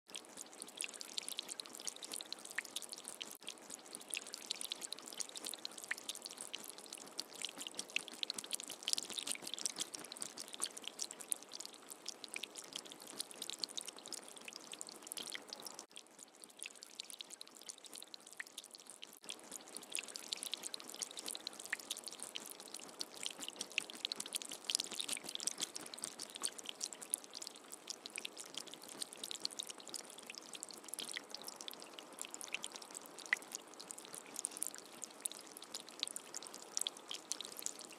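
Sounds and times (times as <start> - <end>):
rain pattering: 0.1 - 37.9.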